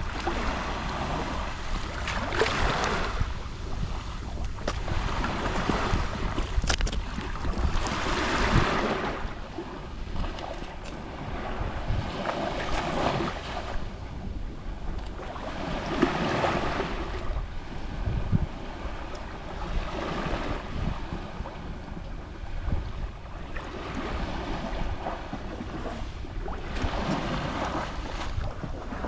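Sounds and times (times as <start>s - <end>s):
sea waves lapping on shore: 0.0s - 29.0s.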